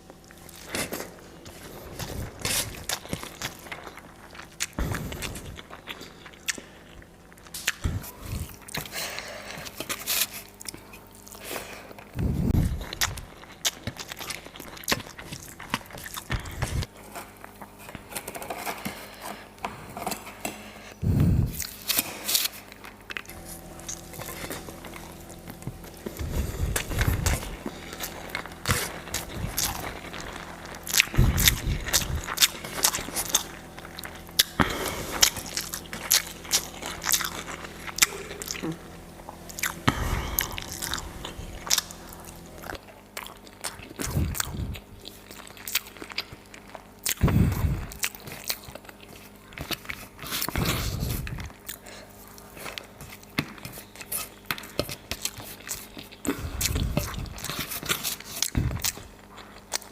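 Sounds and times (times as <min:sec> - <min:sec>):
faint steady hum: 0:00.0 - 0:59.9
chewing food: 0:00.1 - 0:59.9.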